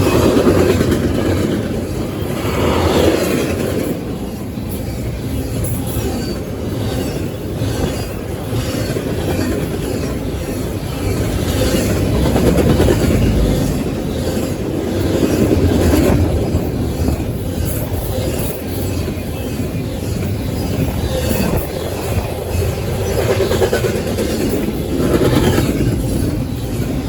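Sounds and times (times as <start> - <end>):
rail clicking: 0.0 - 27.0
train wheels rumbling on rail: 0.0 - 27.0.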